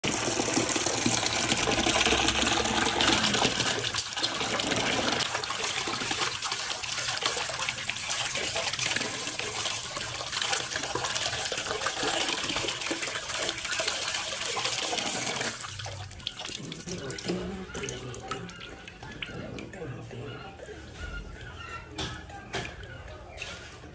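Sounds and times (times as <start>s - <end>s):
tap water pouring into metal basin: 0.0s - 19.8s.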